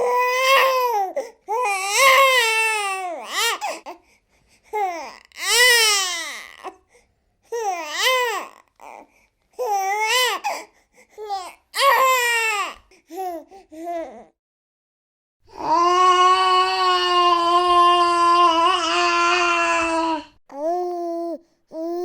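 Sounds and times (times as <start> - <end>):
baby crying: 0.0 - 3.9, 4.8 - 6.8, 7.6 - 14.3, 15.5 - 22.0.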